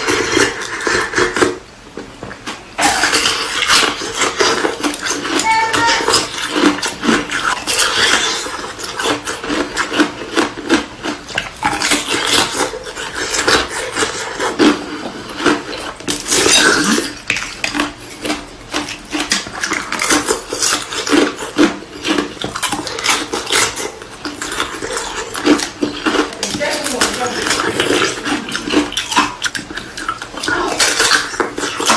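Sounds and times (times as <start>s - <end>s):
ice crunching while chewed: 0.0s - 31.9s.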